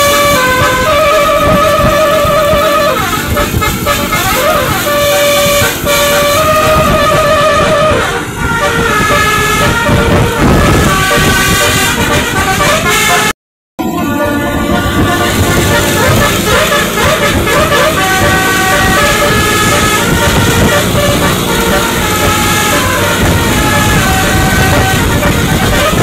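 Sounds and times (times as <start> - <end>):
bus running noise: 0.0 - 26.0
musical bus horn playing tune: 0.0 - 26.0.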